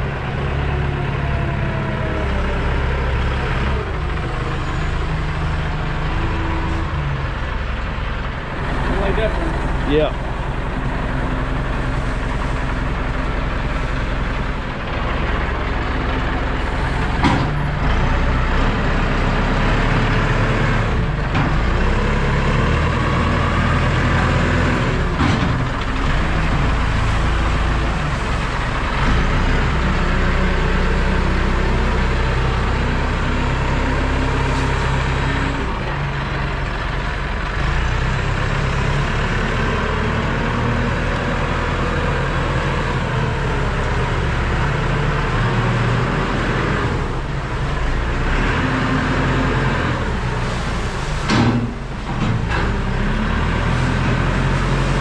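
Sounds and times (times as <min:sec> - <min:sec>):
diesel loader engine working: 0:00.0 - 0:55.0.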